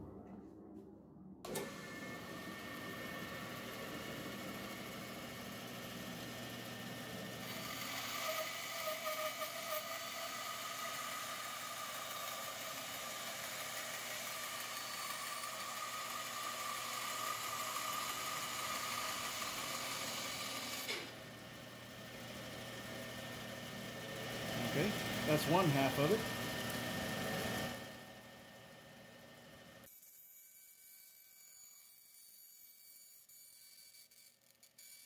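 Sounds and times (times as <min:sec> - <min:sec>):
band saw running: 0:01.5 - 0:29.9
band saw cutting wood: 0:01.5 - 0:30.2.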